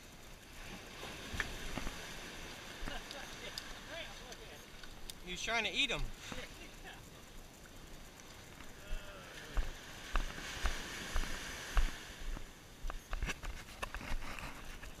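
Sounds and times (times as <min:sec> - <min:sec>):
small waves breaking: 0:00.1 - 0:15.0.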